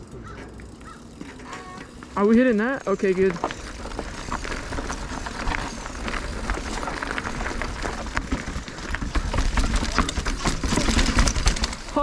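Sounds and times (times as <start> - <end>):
bike chain and frame rattling: 0.0 - 12.0
tyres crunching over rock: 0.4 - 12.0.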